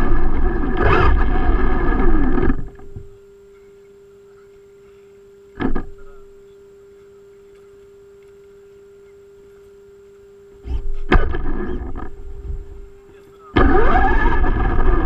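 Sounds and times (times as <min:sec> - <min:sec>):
steady electric hum: 0:00.0 - 0:15.0.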